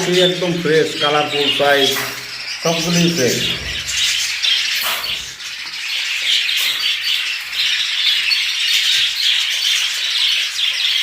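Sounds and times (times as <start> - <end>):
budgerigars chattering and chirping: 0.0 - 11.0.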